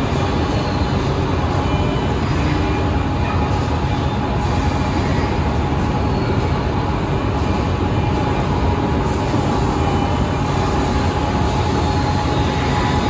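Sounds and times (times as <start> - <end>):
factory machinery drone: 0.0 - 13.0
high machine whine: 0.0 - 13.0.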